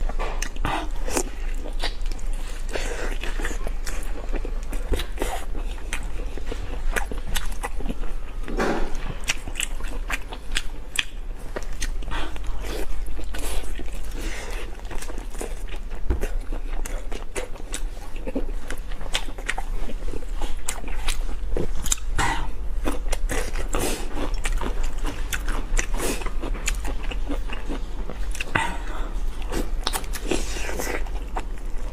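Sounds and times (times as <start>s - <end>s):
crunching and chewing food: 0.0s - 31.9s
steady low hum: 0.0s - 31.9s.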